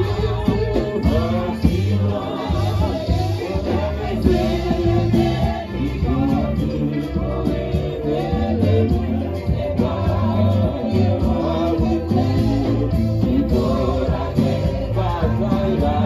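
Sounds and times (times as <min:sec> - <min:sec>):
gospel music with bass and beat: 0:00.0 - 0:16.0
group of singers singing: 0:00.0 - 0:16.0.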